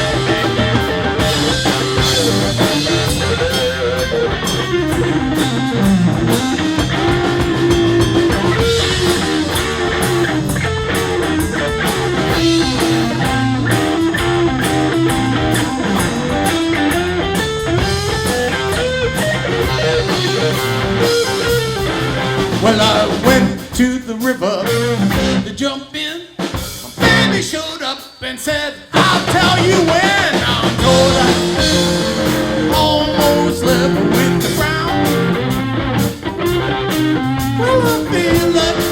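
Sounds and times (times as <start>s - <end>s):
lead guitar solo with bent notes: 0.0s - 23.5s, 30.5s - 38.9s
electric blues band playing: 0.0s - 27.8s, 28.8s - 38.9s.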